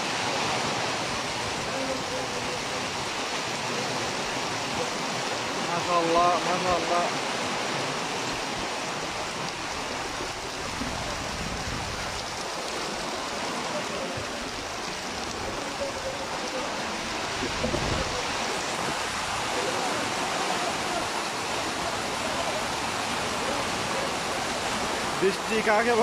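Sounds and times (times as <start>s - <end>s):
heavy rain: 0.0s - 26.0s
running floodwater: 0.0s - 26.0s.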